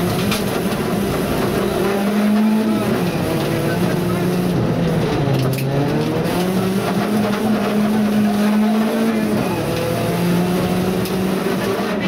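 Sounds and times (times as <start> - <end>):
rally car engine at high revs: 0.0 - 12.0
road and tyre noise: 0.0 - 12.0.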